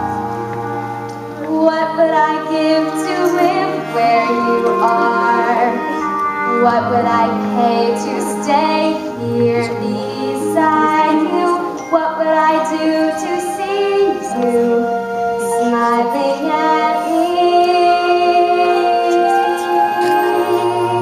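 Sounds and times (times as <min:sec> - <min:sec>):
musical accompaniment: 0:00.0 - 0:21.0
girl singing: 0:01.4 - 0:21.0.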